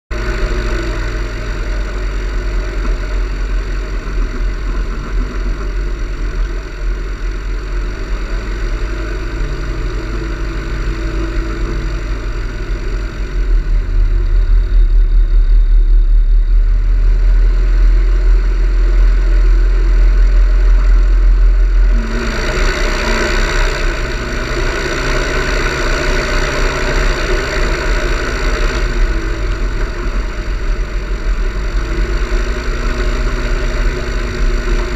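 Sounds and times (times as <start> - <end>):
propeller aircraft engine rumbling: 0.1 - 34.9.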